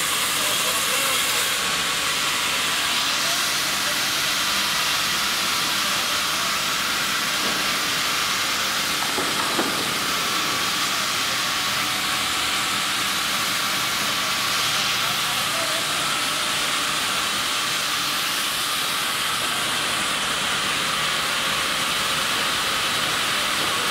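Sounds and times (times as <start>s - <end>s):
sawmill machinery hissing: 0.0s - 23.9s.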